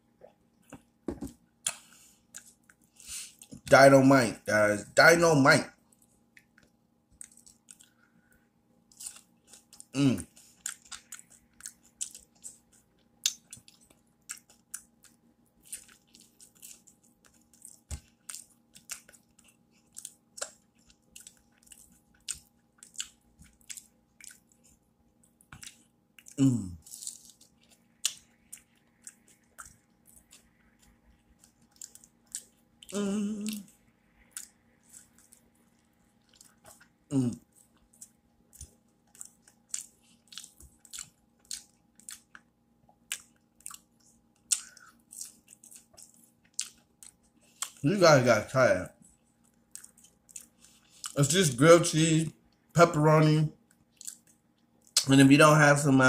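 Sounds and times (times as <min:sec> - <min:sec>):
person chewing food: 0:00.1 - 0:03.6, 0:05.8 - 0:47.8, 0:49.0 - 0:51.3, 0:53.6 - 0:55.1.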